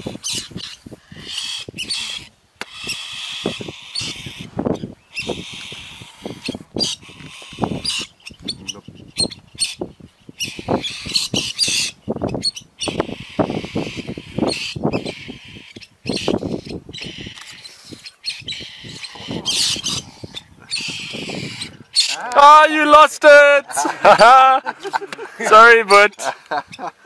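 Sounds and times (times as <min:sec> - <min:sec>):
small bird distress cries: 0:00.0 - 0:23.0.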